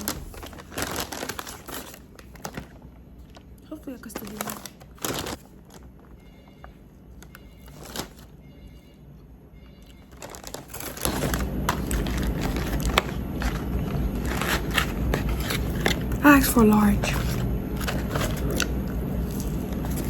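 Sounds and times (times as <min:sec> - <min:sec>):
paper bag rustling: 0:00.0 - 0:08.8, 0:10.0 - 0:20.0.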